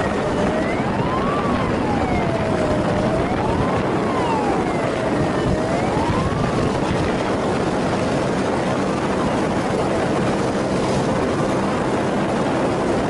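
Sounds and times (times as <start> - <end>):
motorcycle engine and wind noise: 0.0 - 13.0
police siren wailing: 0.0 - 13.0.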